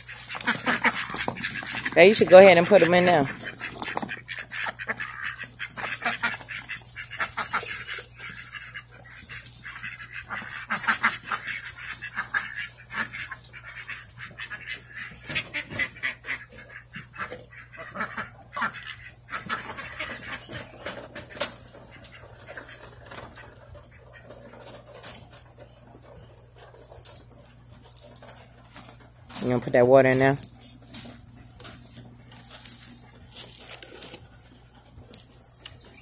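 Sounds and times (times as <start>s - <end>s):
ducks quacking and honking: 0.0s - 36.0s.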